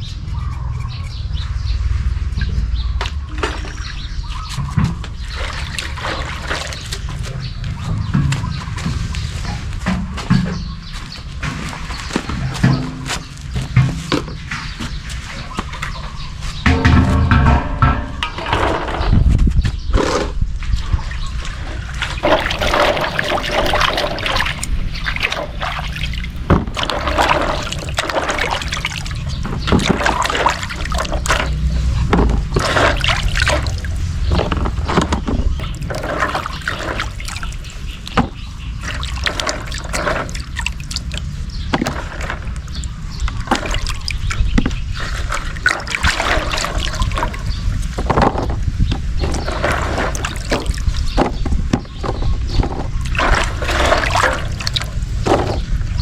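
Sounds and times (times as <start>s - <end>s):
water sloshing and trickling: 0.0s - 56.0s
small water splashes: 2.4s - 19.0s, 20.9s - 56.0s.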